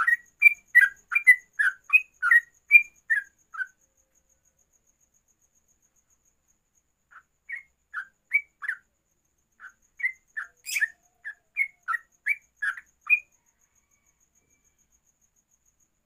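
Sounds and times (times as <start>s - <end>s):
bird chirping song: 0.0s - 16.0s.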